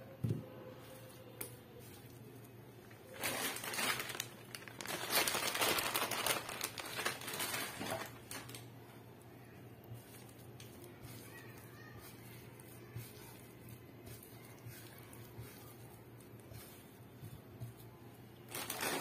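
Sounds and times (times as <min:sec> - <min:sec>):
crinkling rustle: 0:01.9 - 0:08.7, 0:09.9 - 0:19.0.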